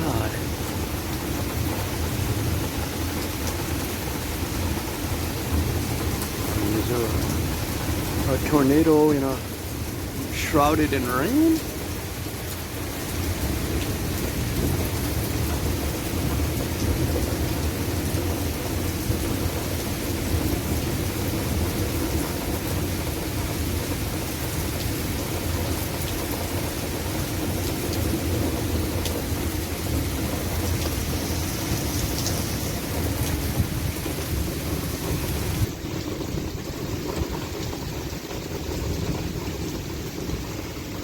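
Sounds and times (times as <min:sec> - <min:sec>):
light rain pattering: 0:00.0 - 0:41.0.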